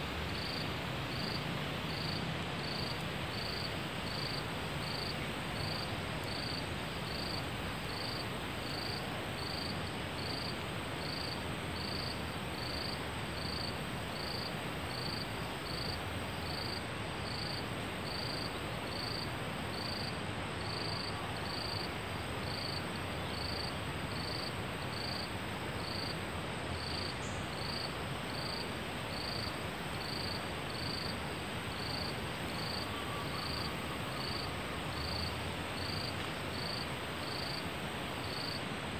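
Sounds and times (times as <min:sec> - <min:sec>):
steady hiss: 0:00.0 - 0:38.9
insect chirping: 0:00.3 - 0:26.1, 0:26.8 - 0:31.1, 0:31.7 - 0:37.6, 0:38.3 - 0:38.6.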